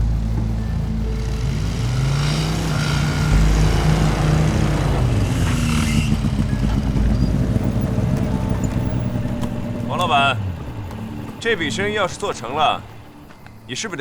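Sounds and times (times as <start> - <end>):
vehicle engine revving: 0.0 - 13.7.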